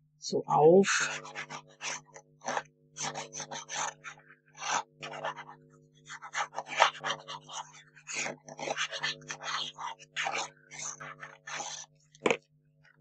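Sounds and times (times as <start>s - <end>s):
glue nozzle scratching on cardstock: 1.1s - 12.3s.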